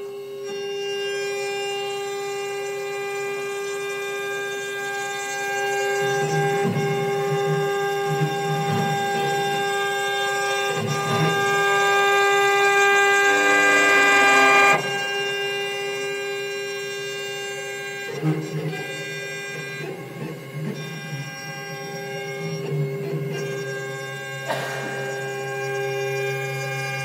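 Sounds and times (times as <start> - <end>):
router spindle whine: 0.0 - 27.0
router cutting wood: 1.1 - 27.0.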